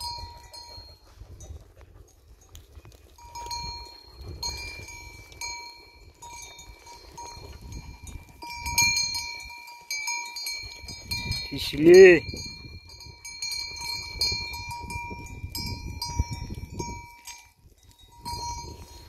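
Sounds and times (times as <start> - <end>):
goat bells clinking: 0.0 - 19.0.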